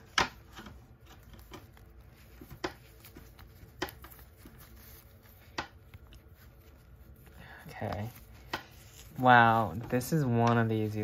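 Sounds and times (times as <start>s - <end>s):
soft handling and rustling: 0.0s - 11.0s.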